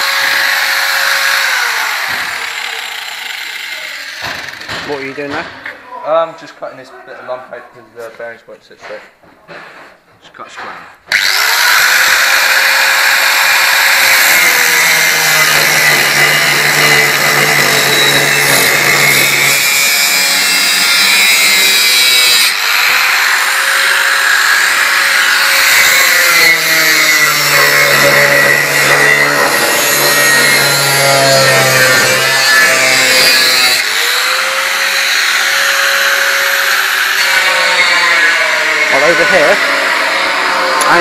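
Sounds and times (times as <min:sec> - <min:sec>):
angle grinder cutting metal: 0:00.0 - 0:05.3, 0:11.1 - 0:41.0.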